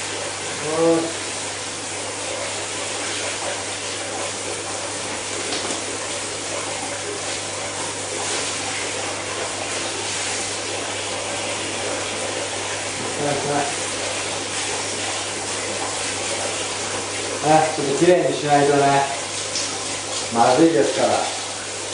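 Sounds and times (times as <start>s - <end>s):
water running: 0.0s - 21.9s.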